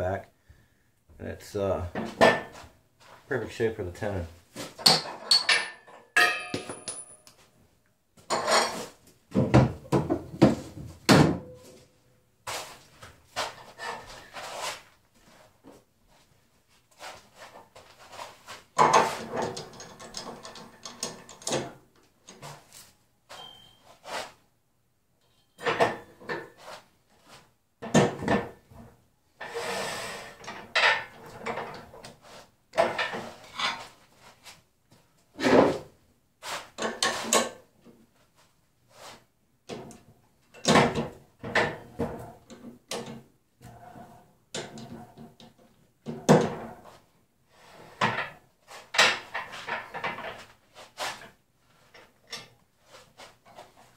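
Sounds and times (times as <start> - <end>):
wood and metal knocks and scrapes: 1.9 - 3.3, 4.4 - 7.5, 8.2 - 24.4, 25.3 - 38.2, 39.0 - 53.9.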